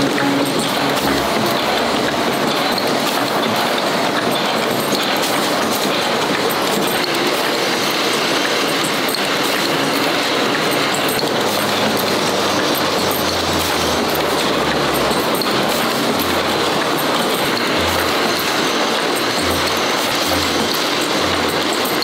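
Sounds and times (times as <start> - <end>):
press machinery running: 0.0 - 22.0.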